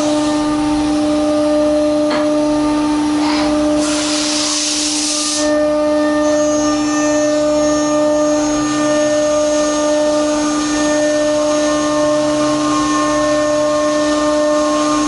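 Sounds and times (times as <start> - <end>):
metal lathe whining: 0.0 - 15.0.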